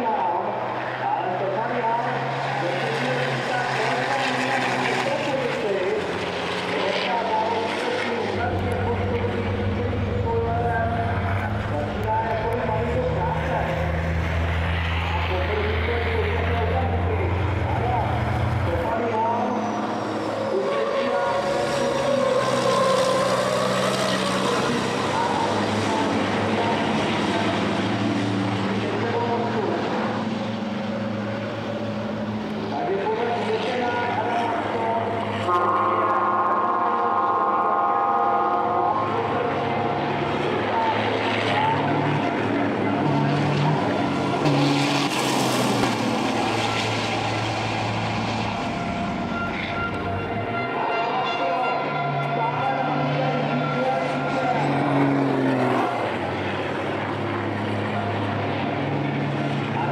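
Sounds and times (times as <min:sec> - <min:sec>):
broad rush of noise: 0:00.0 - 0:59.9
race truck diesel engine passing: 0:00.0 - 0:59.9.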